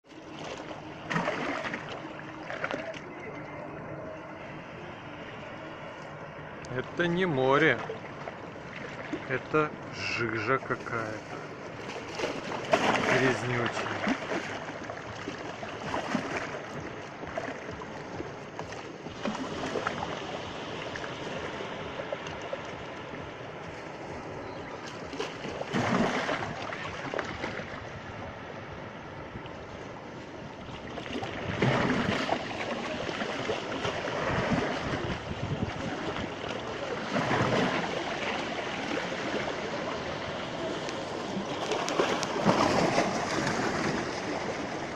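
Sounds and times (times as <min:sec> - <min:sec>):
waves washing onto shore: 0:00.0 - 0:44.9.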